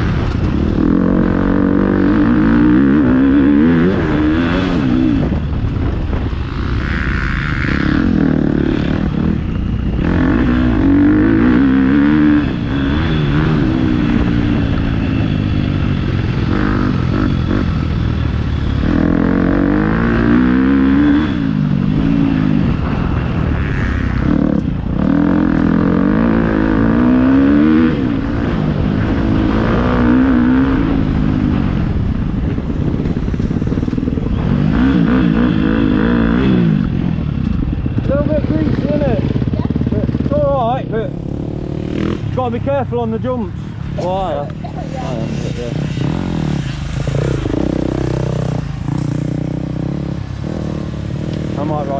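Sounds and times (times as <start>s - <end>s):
motocross bike engine: 0.0s - 51.9s.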